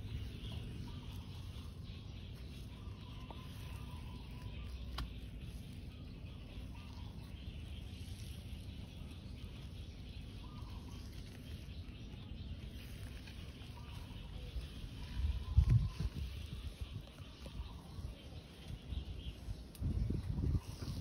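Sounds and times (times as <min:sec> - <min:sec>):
faint chirps: 0:00.0 - 0:21.0.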